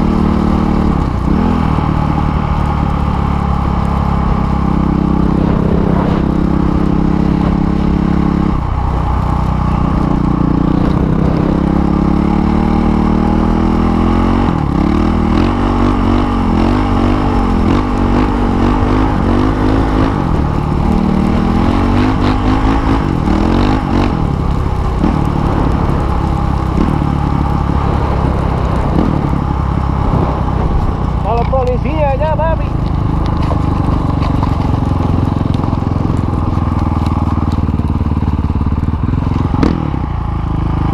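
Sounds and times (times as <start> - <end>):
dirt bike engine accelerating: 0.0 - 40.9.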